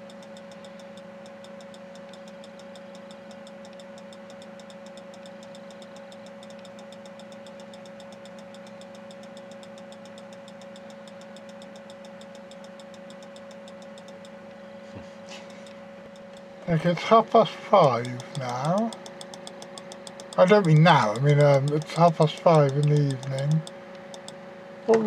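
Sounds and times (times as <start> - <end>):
fast even ticking: 0.0 - 14.4, 15.5 - 25.0
electrical hum: 0.0 - 25.0.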